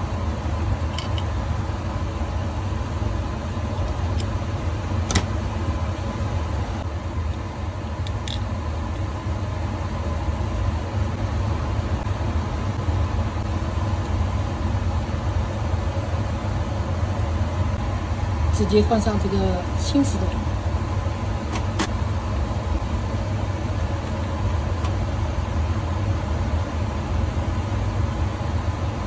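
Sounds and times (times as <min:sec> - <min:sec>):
air blower humming: 0:00.0 - 0:29.0.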